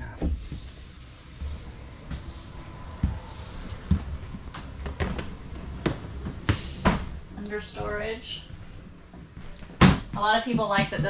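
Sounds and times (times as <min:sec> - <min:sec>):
low steady rumble: 0:00.0 - 0:11.0
footsteps on floor: 0:01.5 - 0:11.0.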